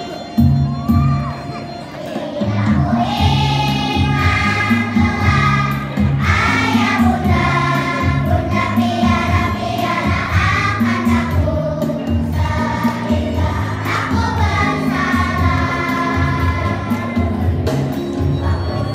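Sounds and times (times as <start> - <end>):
children singing: 0.8 - 18.9
music with steady bass line: 2.6 - 18.9.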